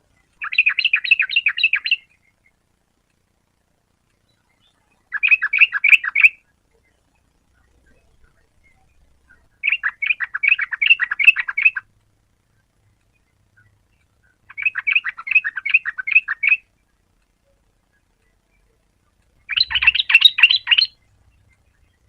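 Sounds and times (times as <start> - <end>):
bird singing chattering notes: 0.1 - 2.6, 4.2 - 11.9, 13.0 - 16.8, 17.9 - 22.0.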